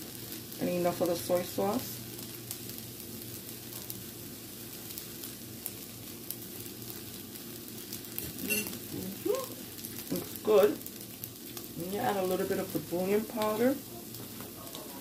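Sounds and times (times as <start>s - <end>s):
rice sizzling in a skillet: 0.0s - 15.0s.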